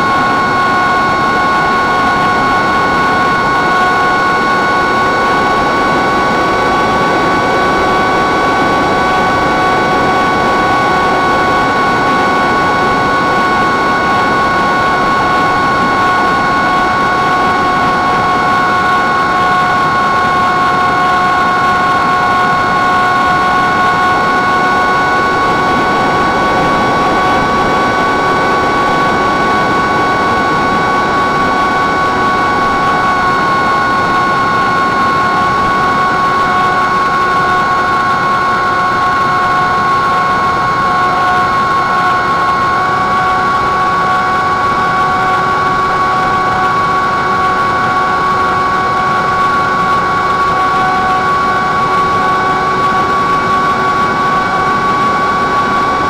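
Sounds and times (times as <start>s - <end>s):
electric motor propeller whine: 0.0s - 56.0s.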